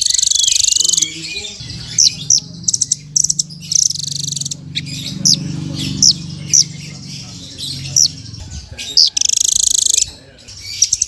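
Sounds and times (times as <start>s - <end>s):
songbird chirping and trilling: 0.0s - 11.0s.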